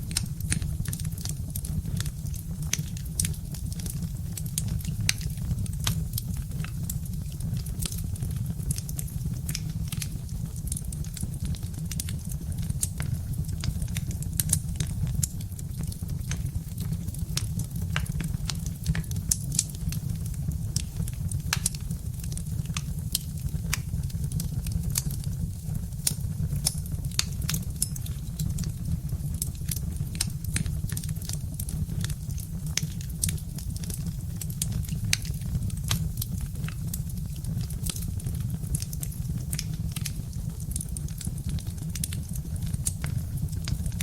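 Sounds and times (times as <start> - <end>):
fire crackling and popping: 0.0 - 44.0.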